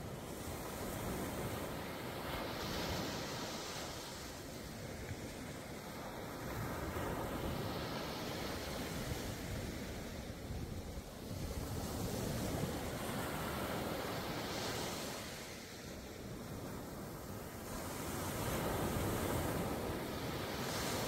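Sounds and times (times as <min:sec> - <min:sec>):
waves breaking on beach: 0:00.0 - 0:21.0
wind rumble on microphone: 0:00.0 - 0:21.0.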